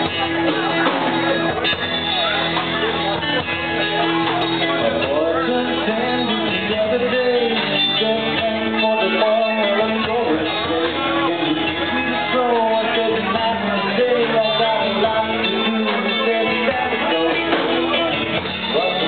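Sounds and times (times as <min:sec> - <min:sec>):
lead singer's voice: 0:00.0 - 0:19.0
live rock band playing: 0:00.0 - 0:19.0.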